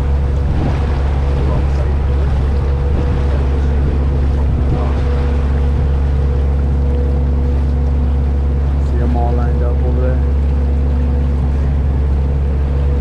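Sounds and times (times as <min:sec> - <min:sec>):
boat engine droning: 0:00.0 - 0:13.0
wake rushing along hull: 0:00.0 - 0:13.0.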